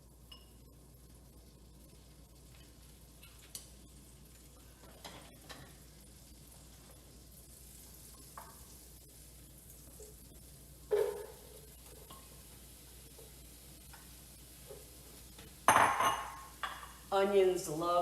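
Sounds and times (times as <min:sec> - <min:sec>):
onions sizzling in butter: 0:00.0 - 0:18.0.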